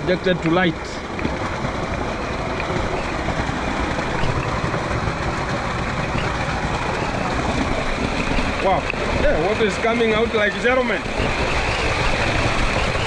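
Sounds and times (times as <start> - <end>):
water pouring rushing: 0.0 - 13.0.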